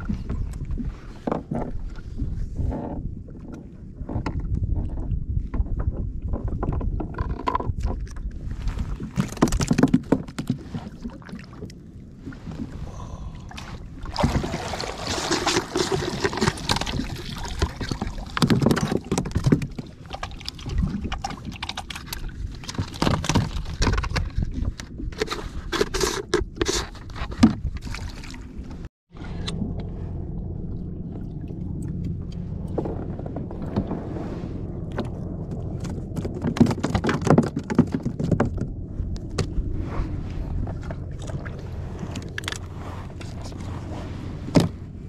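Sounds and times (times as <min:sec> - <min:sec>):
low wind rumble: 0:00.0 - 0:45.0
water splashing and gurgling: 0:00.0 - 0:45.0.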